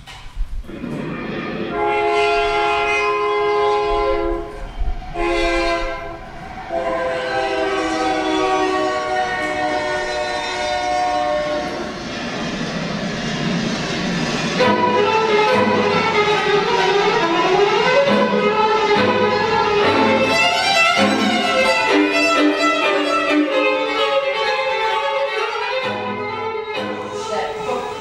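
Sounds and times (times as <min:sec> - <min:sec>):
moving train rumble and clatter: 0:00.0 - 0:28.0
train horn blasts: 0:01.6 - 0:12.1, 0:14.6 - 0:28.0.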